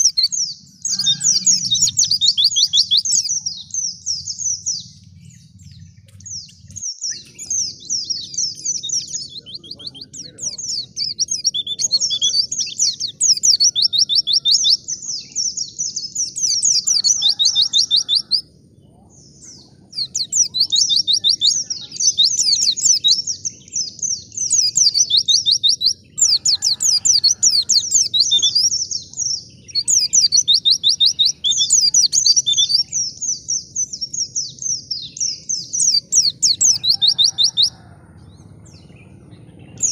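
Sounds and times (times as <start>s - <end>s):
bird singing high twittering song: 0.0s - 39.9s.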